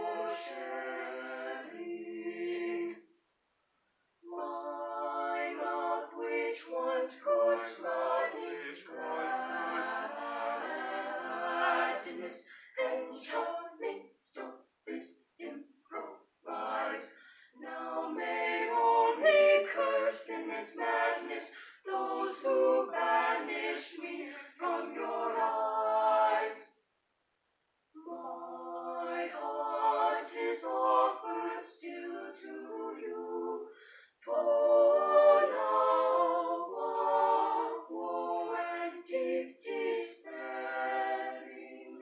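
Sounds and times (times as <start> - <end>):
a cappella ensemble singing: 0.0 - 3.1, 4.2 - 26.8, 28.0 - 42.0.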